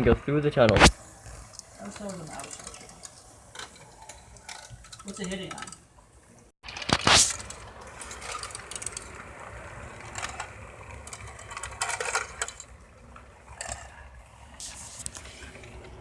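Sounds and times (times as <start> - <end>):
wheels clicking and clattering: 0.9 - 16.0.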